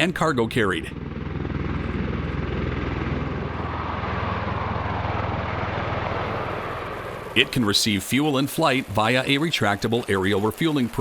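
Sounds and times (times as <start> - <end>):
aircraft rotor blade chop: 0.0 - 11.0.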